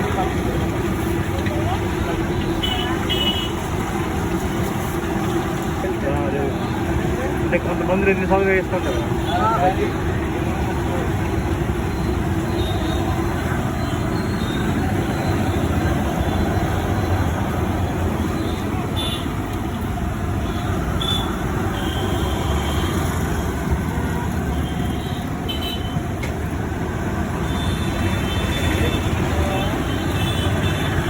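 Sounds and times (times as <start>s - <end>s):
roadside traffic noise: 0.0s - 31.0s.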